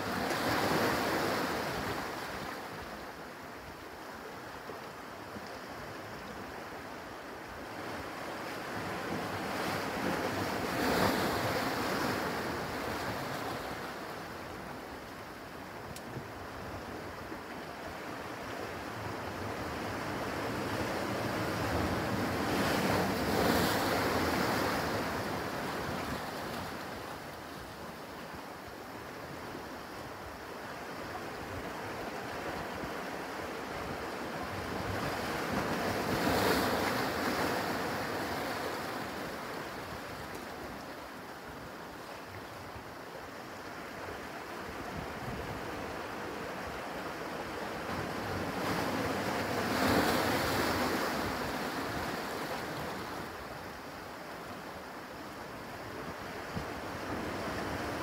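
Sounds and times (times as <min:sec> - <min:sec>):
ocean waves on rocky shore: 0:00.0 - 0:58.0.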